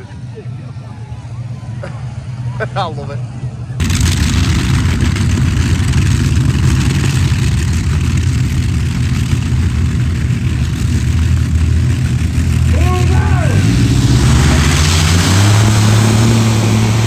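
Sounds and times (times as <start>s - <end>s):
tractor engines rumbling: 0.0s - 17.0s.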